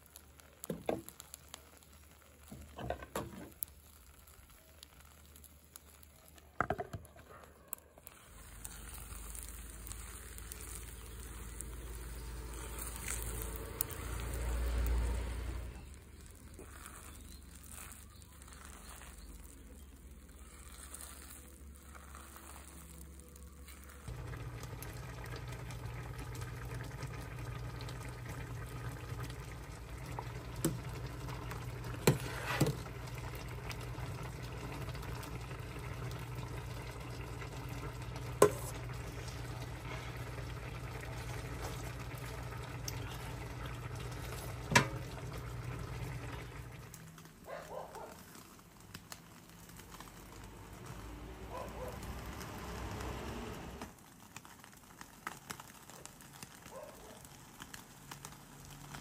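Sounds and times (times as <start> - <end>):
soup boiling in a pot: 0.0 - 59.0.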